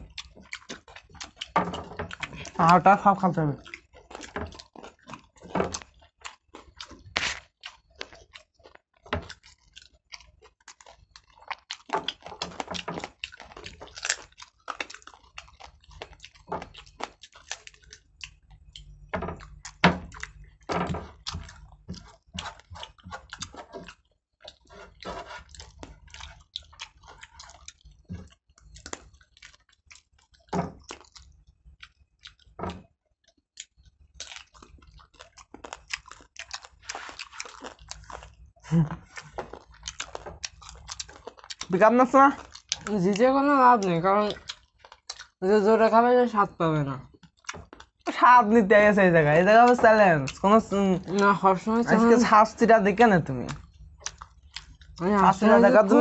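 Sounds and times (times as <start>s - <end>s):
chewing and wet mouth noises: 0.0s - 56.0s.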